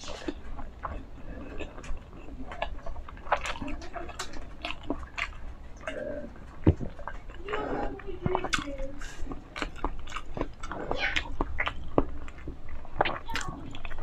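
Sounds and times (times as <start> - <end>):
person gulping water: 0.0 - 14.0
wet mouth clicks: 0.0 - 14.0.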